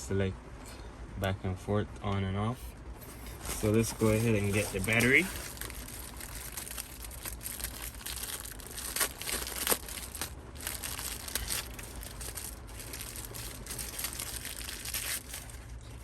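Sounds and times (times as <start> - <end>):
plastic packaging crinkling: 3.1 - 16.0.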